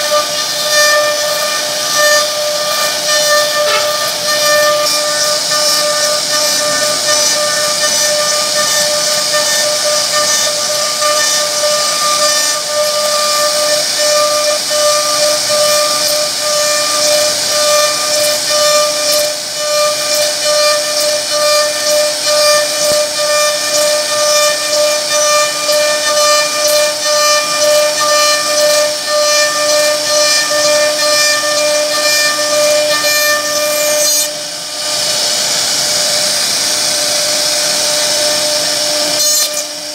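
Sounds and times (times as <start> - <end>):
hiss of bit cutting wood: 0.0 - 39.9
router spindle whining: 0.0 - 39.9.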